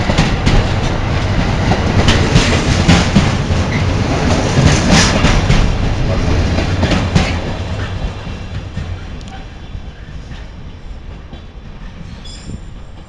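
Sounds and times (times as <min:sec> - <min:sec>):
train running rumble: 0:00.0 - 0:13.0
train wheels clicking over rail joints: 0:00.0 - 0:13.0.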